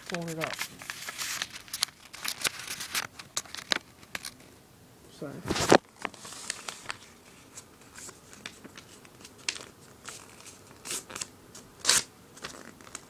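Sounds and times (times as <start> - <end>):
paper rustling and crinkling: 0.0 - 4.4, 5.4 - 13.0.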